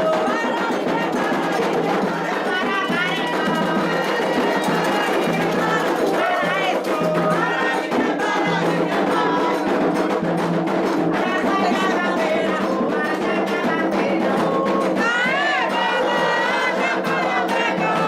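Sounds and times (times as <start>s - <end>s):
voices chanting: 0.0s - 10.1s, 11.2s - 18.0s
hand drums beating: 0.0s - 18.0s.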